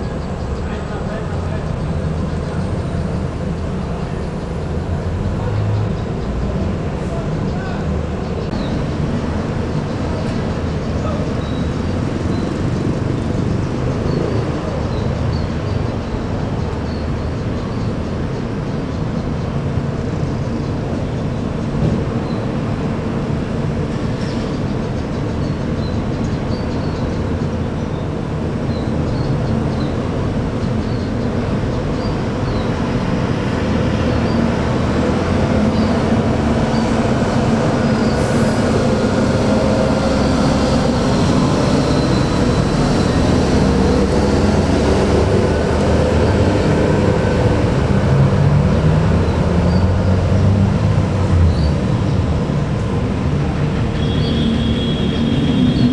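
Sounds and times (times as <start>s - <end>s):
diesel bus engine rumbling: 0.0s - 55.9s.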